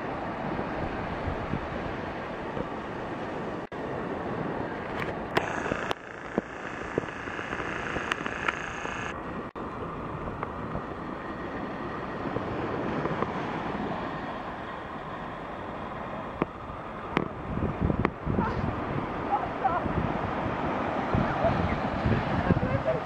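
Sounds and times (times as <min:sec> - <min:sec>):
wind buffeting microphone: 0:00.0 - 0:05.6, 0:06.4 - 0:23.0.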